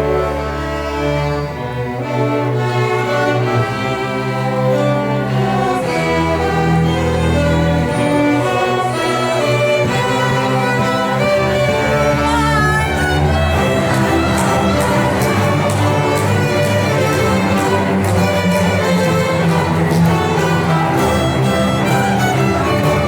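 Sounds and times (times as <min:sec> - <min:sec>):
sustained cello and bass notes: 0:00.0 - 0:23.0
violins playing melody: 0:00.0 - 0:23.0.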